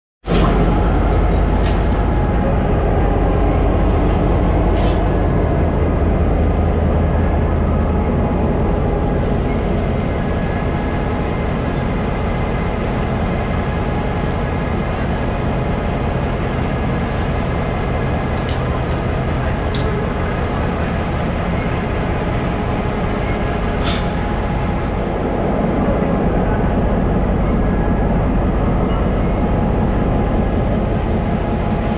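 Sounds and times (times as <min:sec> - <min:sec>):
locomotive diesel engine rumbling: 0:00.3 - 0:31.9.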